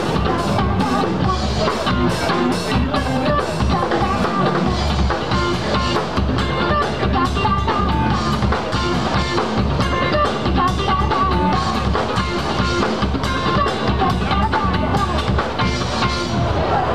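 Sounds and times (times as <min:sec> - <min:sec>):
live rock band playing: 0:00.0 - 0:16.9.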